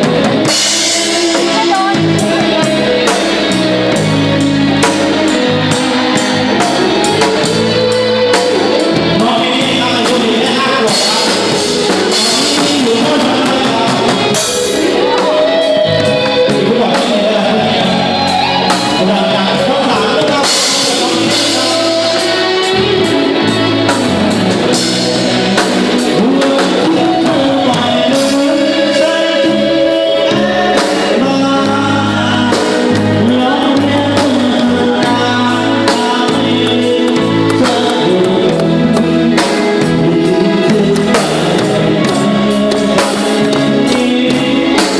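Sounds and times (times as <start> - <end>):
drum kit beat: 0.0 - 44.9
live band playing: 0.0 - 44.9
person singing: 0.0 - 44.9.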